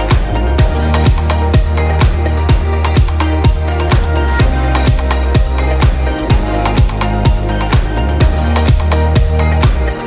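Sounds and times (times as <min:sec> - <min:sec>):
deep sustained bass: 0:00.0 - 0:10.0.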